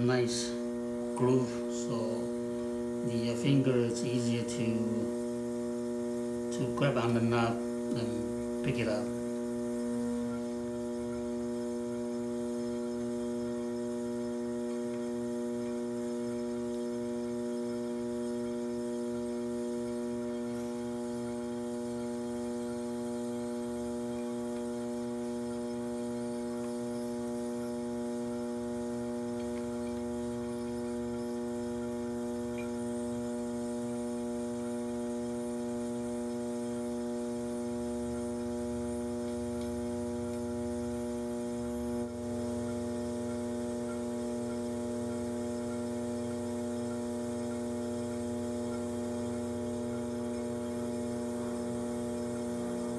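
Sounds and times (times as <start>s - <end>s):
potter's wheel motor humming: 0.0s - 52.9s.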